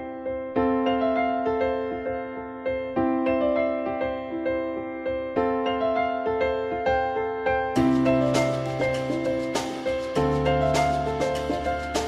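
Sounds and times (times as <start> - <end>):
piano-like keyboard melody: 0.0 - 12.0.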